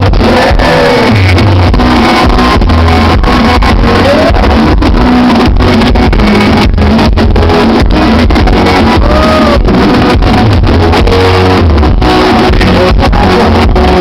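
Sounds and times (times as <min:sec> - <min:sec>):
guitar: 0:00.0 - 0:14.0
live band music: 0:00.0 - 0:14.0
person singing: 0:00.0 - 0:14.0.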